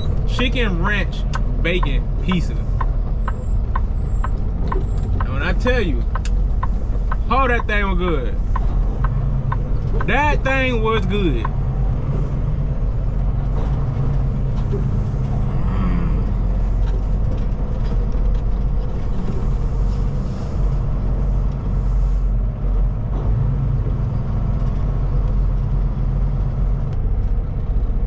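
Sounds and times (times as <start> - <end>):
road noise: 0.0 - 28.0
truck engine running: 0.0 - 28.0.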